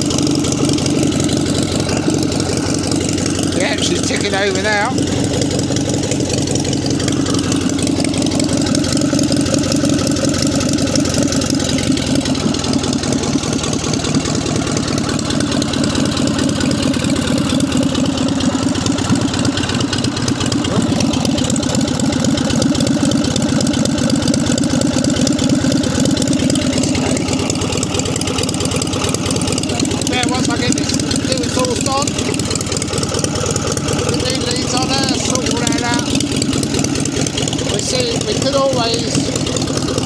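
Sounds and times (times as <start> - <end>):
single-cylinder petrol engine idling: 0.0 - 40.0.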